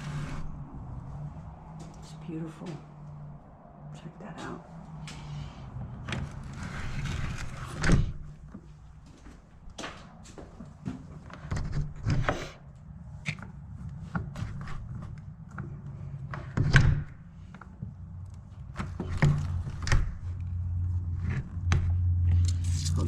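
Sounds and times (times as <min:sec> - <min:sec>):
low hum: 0:00.0 - 0:16.4, 0:17.1 - 0:23.0.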